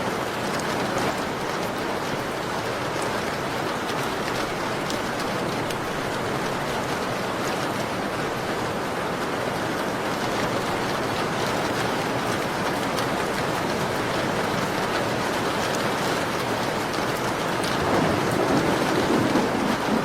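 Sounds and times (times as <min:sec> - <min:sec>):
rain on a window: 0:00.0 - 0:20.0.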